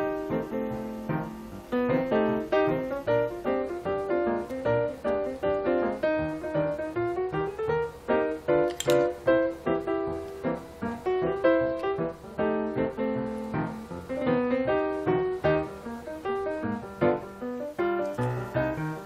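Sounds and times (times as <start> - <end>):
light piano melody: 0.0 - 19.0.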